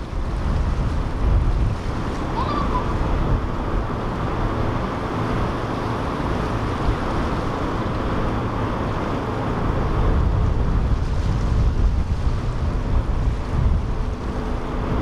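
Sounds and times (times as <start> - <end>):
boat engines running: 0.0 - 15.0
rushing water: 0.0 - 15.0
wind on the microphone: 0.0 - 15.0.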